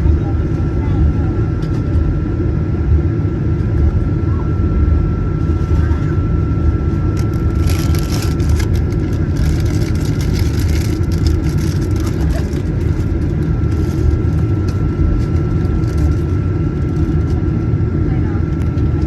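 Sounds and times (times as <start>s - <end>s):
jet engine cabin rumble: 0.0s - 19.0s
thin steady whine: 0.0s - 19.0s.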